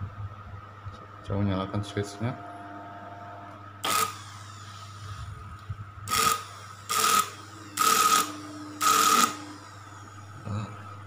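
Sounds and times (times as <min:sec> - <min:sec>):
steady low hum: 0:00.0 - 0:11.0
motor whirring whine with hiss: 0:01.8 - 0:11.0.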